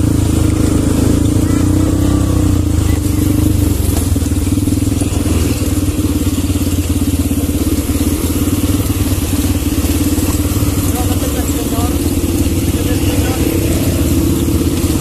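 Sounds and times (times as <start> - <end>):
quad bike engines running: 0.0 - 15.0.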